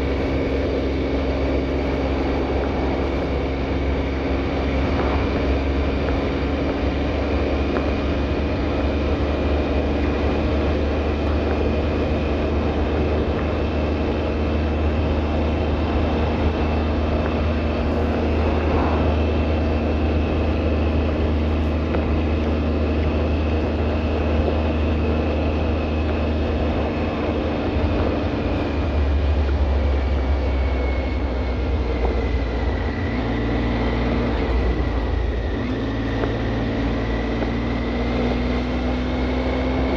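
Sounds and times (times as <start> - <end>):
mechanical drone with deep rumble: 0.0 - 39.9.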